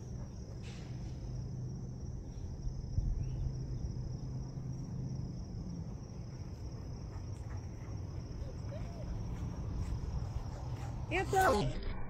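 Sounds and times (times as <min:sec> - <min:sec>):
high-pitched insect chorus: 0:00.0 - 0:11.9.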